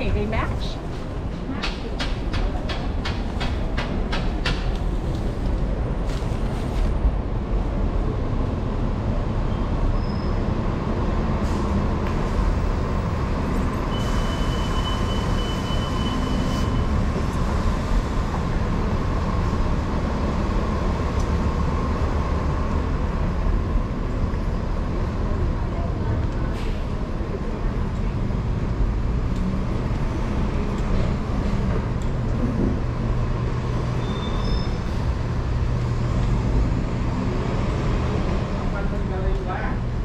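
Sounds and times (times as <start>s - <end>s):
bus engine rumble: 0.0s - 40.0s.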